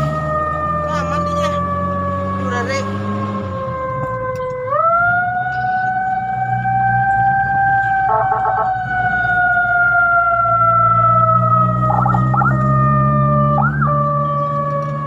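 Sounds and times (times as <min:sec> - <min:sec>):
fire truck siren wailing: 0:00.0 - 0:15.0
truck engine hum: 0:00.0 - 0:15.0.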